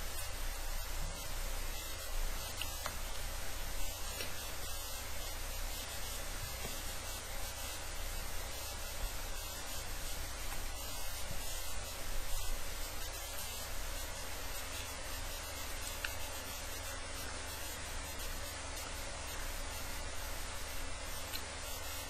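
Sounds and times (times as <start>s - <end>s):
microphone hiss: 0.0s - 22.0s.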